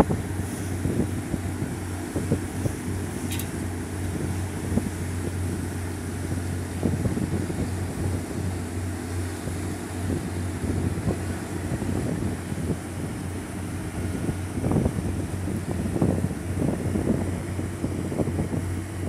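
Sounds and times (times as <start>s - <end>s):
ship diesel engine drone: 0.0s - 19.0s
wind buffeting microphone: 0.0s - 19.0s.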